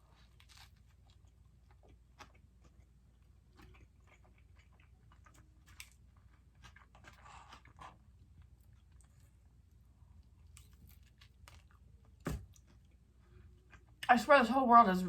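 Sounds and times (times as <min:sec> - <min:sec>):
faint chewing: 0:00.0 - 0:14.1.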